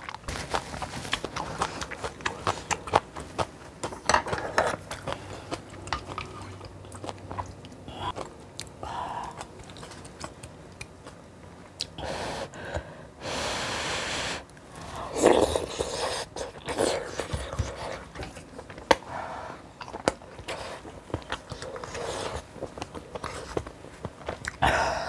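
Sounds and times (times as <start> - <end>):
biting and chewing: 0.0 - 12.0, 14.8 - 24.6.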